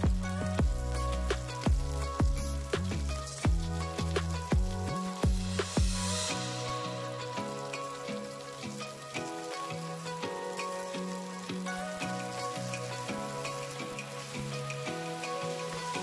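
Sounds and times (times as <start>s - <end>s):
background music with bass line: 0.0s - 16.0s
fish sizzling in oil: 0.0s - 16.0s.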